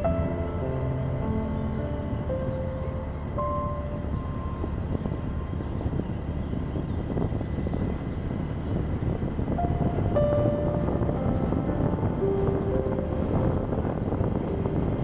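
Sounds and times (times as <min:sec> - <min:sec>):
background music held notes: 0:00.0 - 0:07.8, 0:08.8 - 0:15.0
vehicle rumble: 0:00.0 - 0:15.0.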